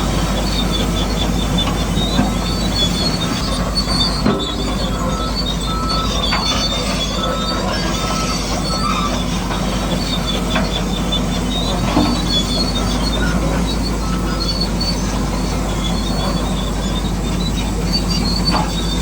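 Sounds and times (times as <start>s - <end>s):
metal tracks clicking: 0.0s - 19.0s
high-pitched squeals: 0.5s - 19.0s.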